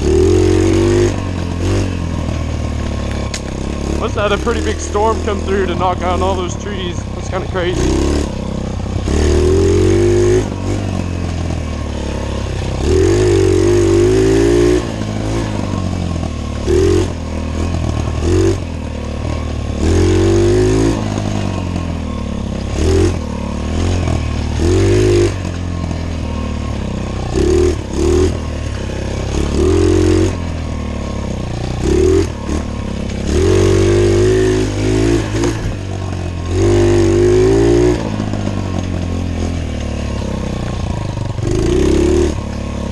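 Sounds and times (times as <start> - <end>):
pit bike engine revving: 0.0 - 42.9.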